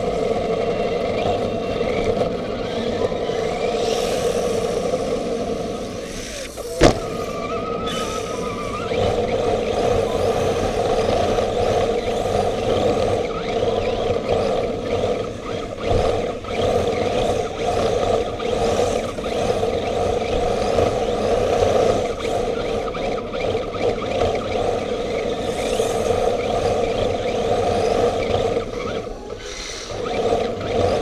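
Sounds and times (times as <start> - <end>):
rc car rushing on concrete: 0.0 - 31.0.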